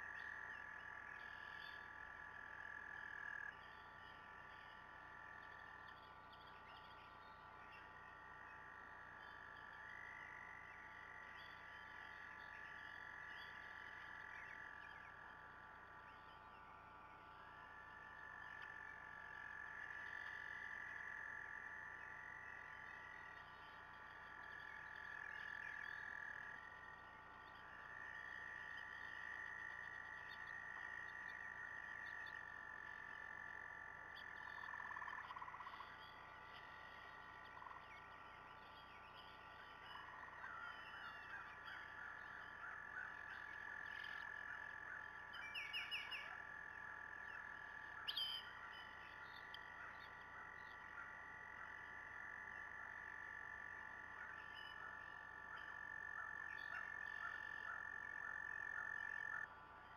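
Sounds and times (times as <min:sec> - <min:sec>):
frogs trilling: 0:00.0 - 0:59.9.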